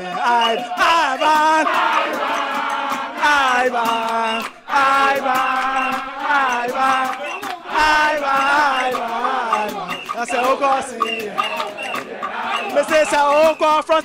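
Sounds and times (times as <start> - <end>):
group of voices chanting: 0.0 - 13.6.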